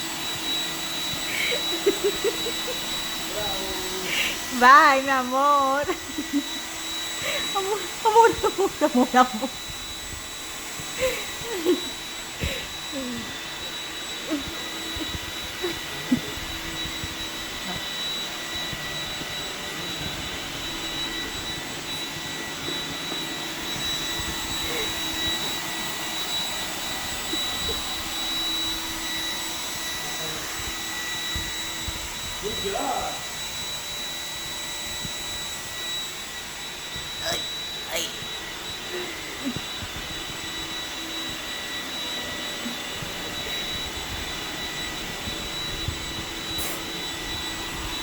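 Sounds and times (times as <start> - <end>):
robot vacuum motor whine: 0.0 - 48.0.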